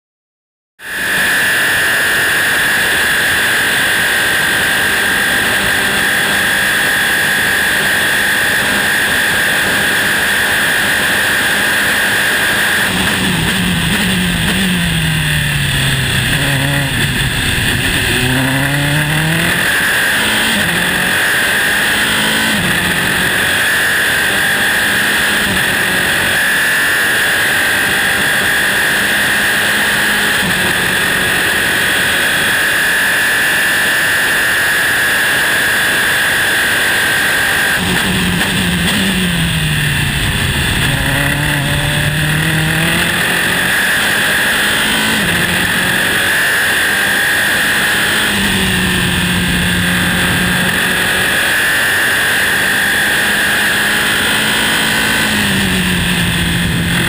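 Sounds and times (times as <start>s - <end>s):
race car engine at high revs: 0.8s - 57.0s.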